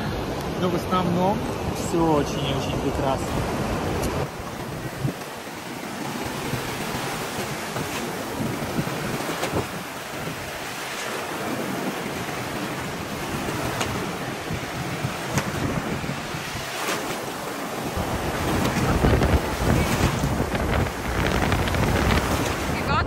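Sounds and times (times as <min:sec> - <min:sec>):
surf washing over sand: 0:00.0 - 0:23.0.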